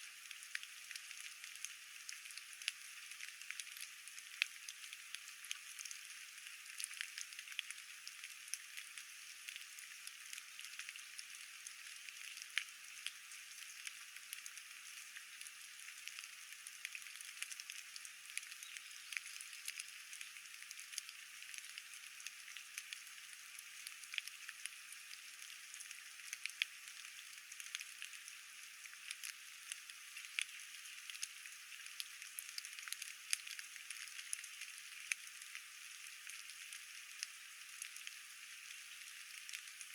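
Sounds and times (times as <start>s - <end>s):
light rain hiss: 0.0s - 39.9s.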